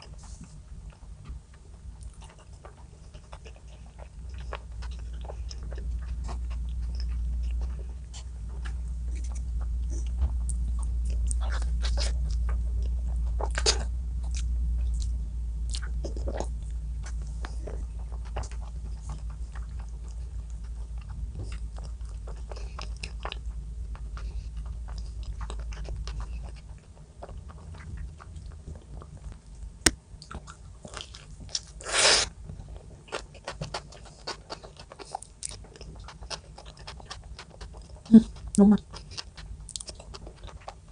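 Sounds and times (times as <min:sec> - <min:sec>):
low hum: 0:00.0 - 0:40.9
person chewing and crunching: 0:00.0 - 0:40.9.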